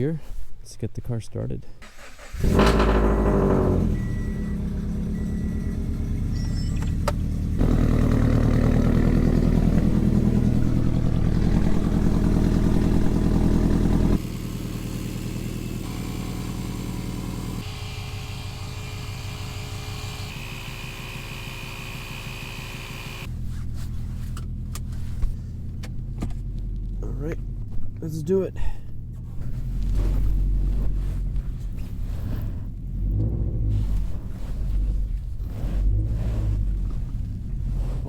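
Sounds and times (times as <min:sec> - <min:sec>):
car engine idling: 0:02.1 - 0:33.2, 0:33.8 - 0:38.0.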